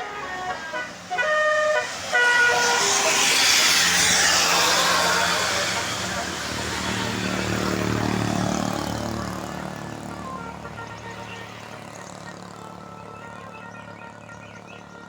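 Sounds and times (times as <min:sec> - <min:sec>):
bus passing and pulling away: 0:00.0 - 0:15.0.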